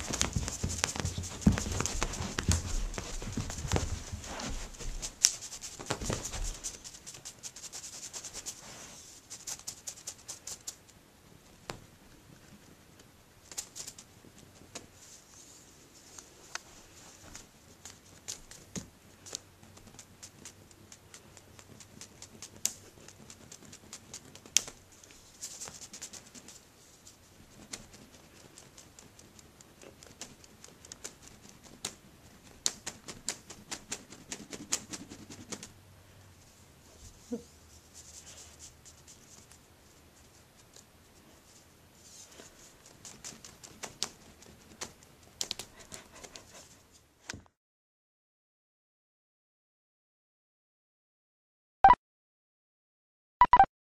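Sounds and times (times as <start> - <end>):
cat claws scratching carpet: 0.0 - 11.0, 11.7 - 35.8, 36.9 - 47.1.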